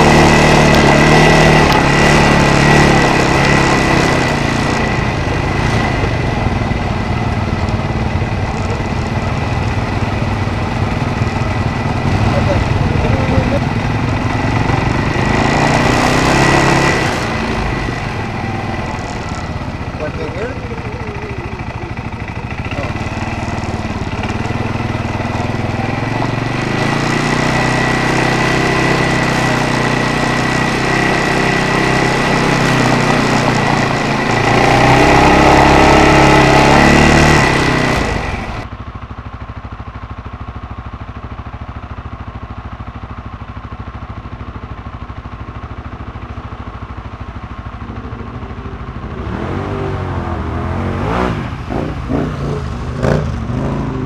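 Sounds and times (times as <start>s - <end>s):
other atv engines revving: 0.0s - 38.7s, 44.2s - 54.0s
atv engine whining: 0.0s - 54.0s.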